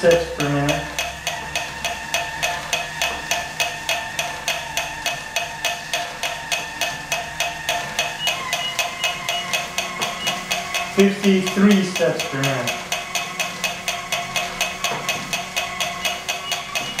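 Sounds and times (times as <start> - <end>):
fast even clicking: 0.0 - 17.0
steady motor whine: 0.0 - 17.0.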